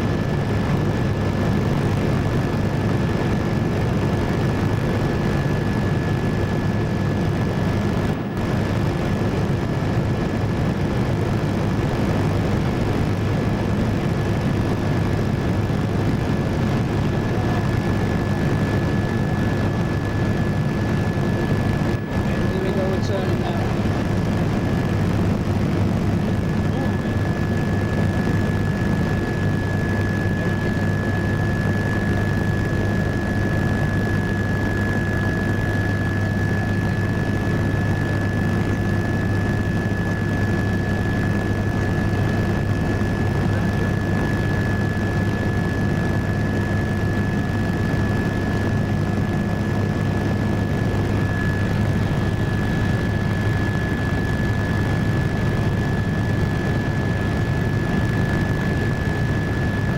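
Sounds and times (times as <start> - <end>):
helicopter engine and rotor drone: 0.0 - 59.9
high whine: 0.0 - 59.9.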